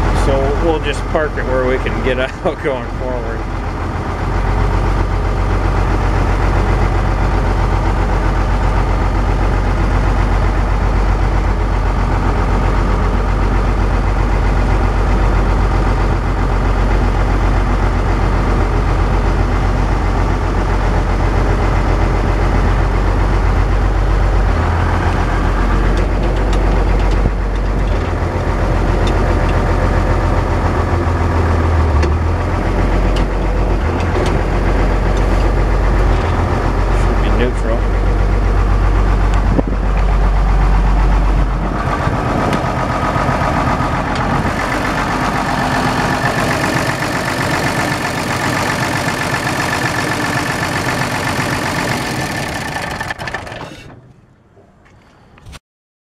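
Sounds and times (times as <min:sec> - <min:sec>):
diesel tractor engine running: 0:00.0 - 0:55.6.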